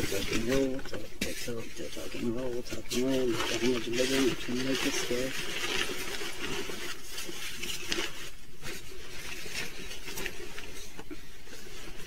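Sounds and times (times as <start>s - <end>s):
fabric bag rustling: 0.0s - 12.0s.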